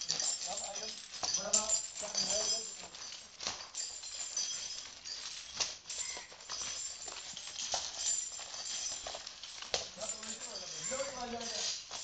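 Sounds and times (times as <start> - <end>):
chains clinking and dragging: 0.0 - 12.0.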